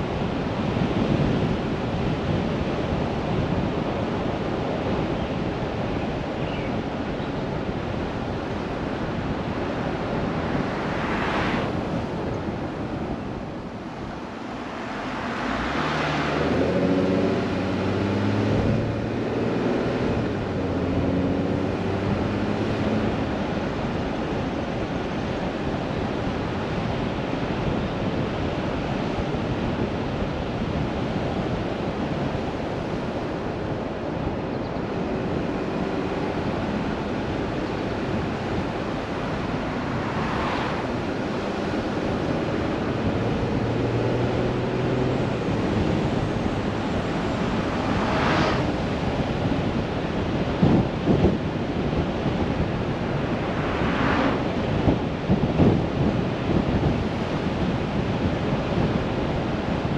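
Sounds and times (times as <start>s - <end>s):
tyre and wind noise: 0.0s - 59.9s
low engine hum: 7.2s - 59.9s.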